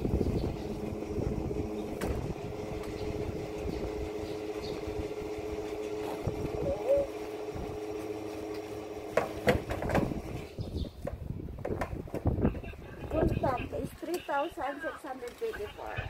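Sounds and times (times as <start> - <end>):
fuel pump humming: 0.0 - 15.9.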